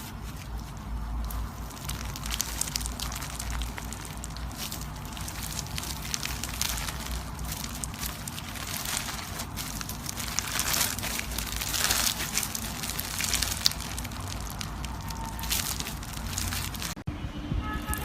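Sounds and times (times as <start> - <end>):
slime crackling and popping: 0.4 - 17.0.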